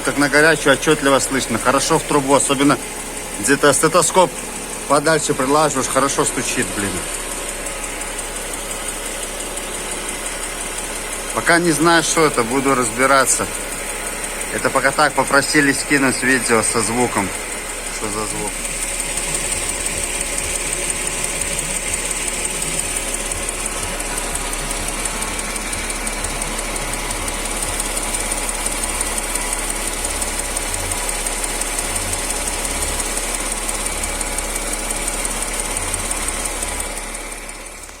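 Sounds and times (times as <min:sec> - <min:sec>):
car engine running with rapid knock: 0:00.0 - 0:38.0.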